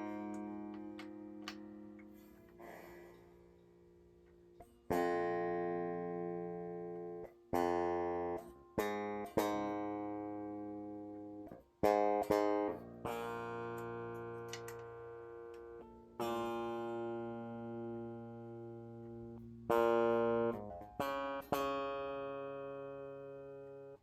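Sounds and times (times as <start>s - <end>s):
electric guitar notes picked: 0.0s - 3.6s, 4.6s - 24.0s.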